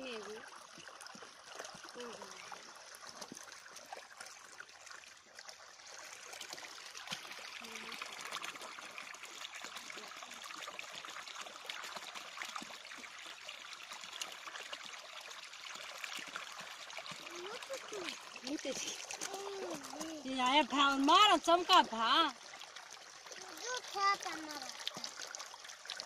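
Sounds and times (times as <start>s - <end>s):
water pouring into channel: 0.0s - 26.0s.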